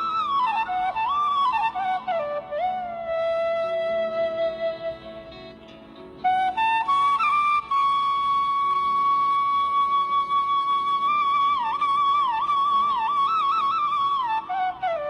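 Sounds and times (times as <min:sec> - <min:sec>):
instrumental melody: 0:00.0 - 0:15.0.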